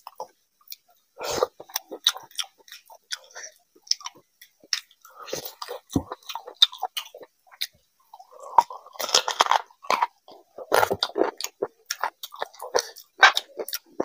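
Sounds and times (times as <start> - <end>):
close chewing with wet clicks: 1.5 - 14.0.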